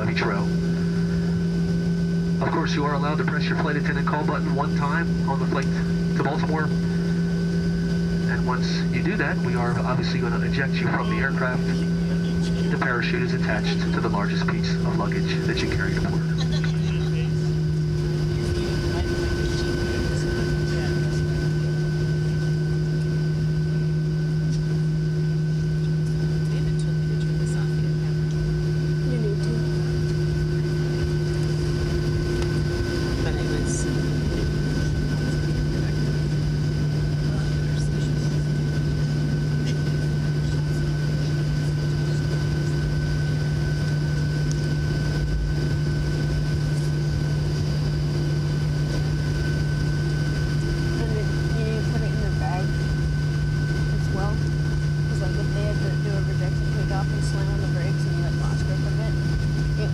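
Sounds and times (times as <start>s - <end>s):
aircraft cabin engine hum: 0.0s - 59.9s.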